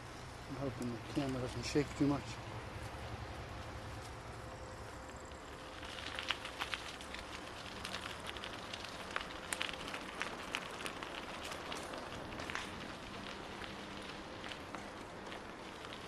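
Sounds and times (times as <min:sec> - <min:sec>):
bicycle rattling on rough trail: 0:00.0 - 0:16.0.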